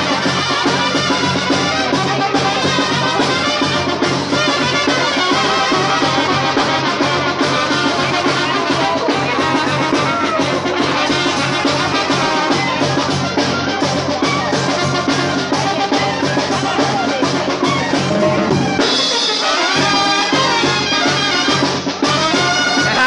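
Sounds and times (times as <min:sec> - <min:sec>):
brass band playing lively tune: 0:00.0 - 0:23.0.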